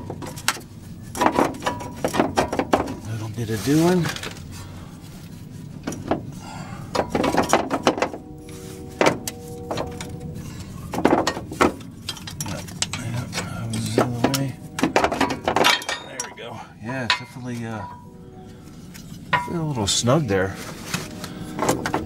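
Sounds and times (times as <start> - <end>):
metal suspension parts clanking: 0.0 - 22.0
steady ringing tone: 0.0 - 22.0.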